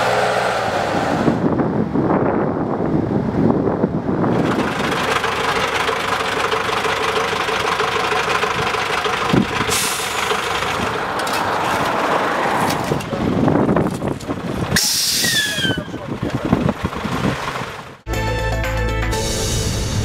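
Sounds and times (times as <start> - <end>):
heavy engine drone: 0.0 - 11.6, 13.2 - 20.0
dense noisy rumble: 0.0 - 18.0.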